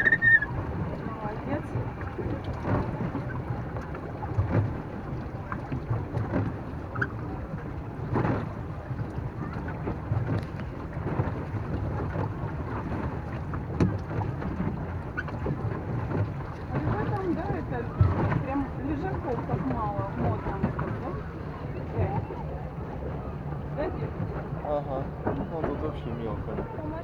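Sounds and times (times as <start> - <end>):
wind on microphone: 0.0 - 25.8
small boat engine rumble: 0.0 - 27.0
water slapping against hull: 0.0 - 27.0.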